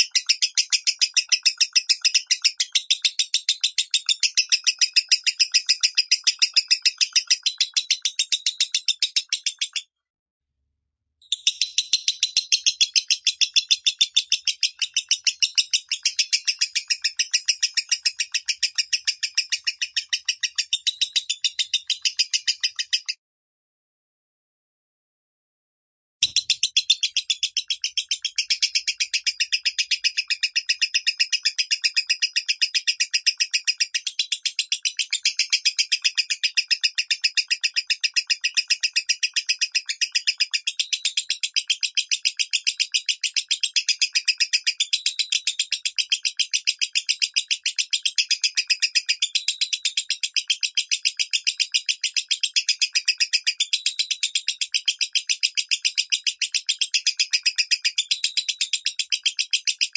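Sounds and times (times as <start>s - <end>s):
lovebird chattering trill: 0.0s - 9.8s, 11.2s - 23.2s, 26.2s - 59.9s.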